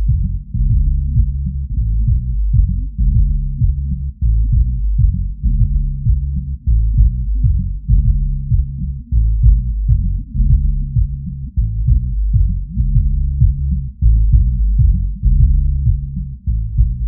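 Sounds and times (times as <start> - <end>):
kick-drum beat: 0.0 - 17.0
pulsing sub-bass line: 0.0 - 17.0.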